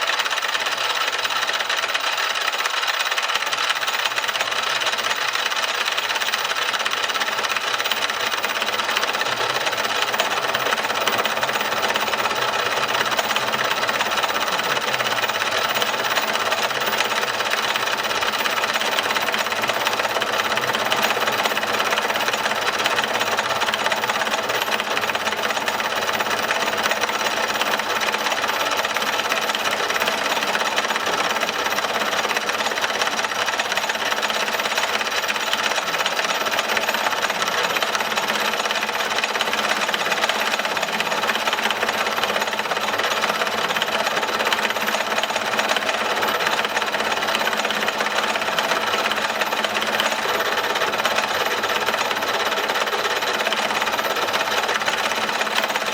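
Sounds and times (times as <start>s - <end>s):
power tool rattling under load: 0.0s - 55.9s.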